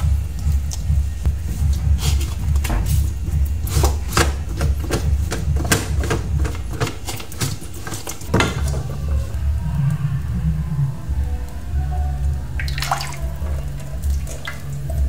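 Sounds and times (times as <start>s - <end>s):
background music with bass: 0.0s - 15.0s.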